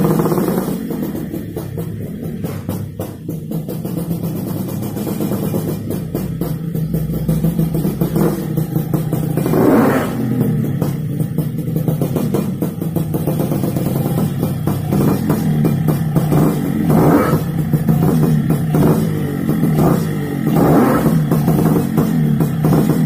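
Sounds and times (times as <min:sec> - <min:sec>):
drum beat: 0:00.0 - 0:23.0.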